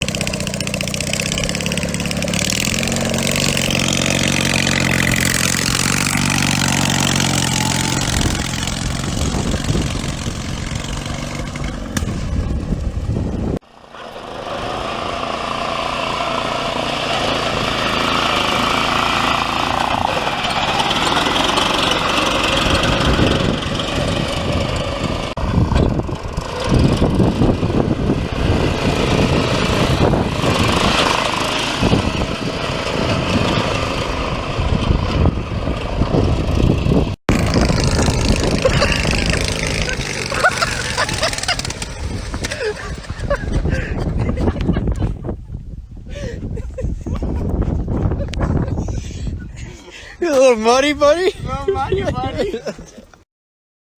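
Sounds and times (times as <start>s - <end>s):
lawnmower engine running: 0.0s - 45.2s.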